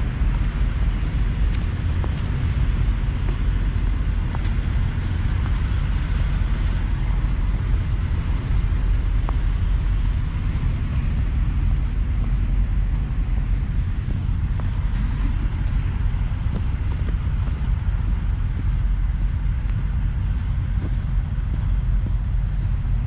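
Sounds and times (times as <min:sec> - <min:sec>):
diesel truck engines idling: 0:00.0 - 0:23.0
footsteps in snow: 0:00.0 - 0:23.0.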